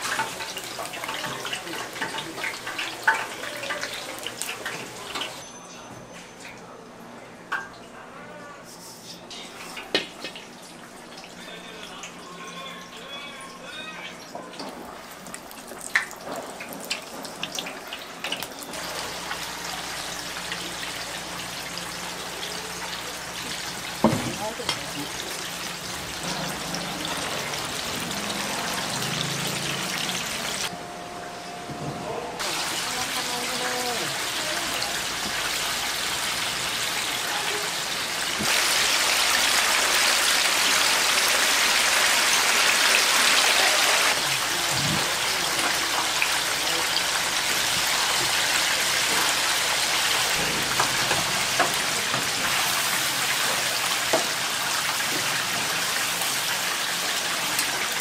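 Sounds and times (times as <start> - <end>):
chicken frying in hot oil: 0.0 - 5.4, 13.4 - 30.7, 32.4 - 58.0.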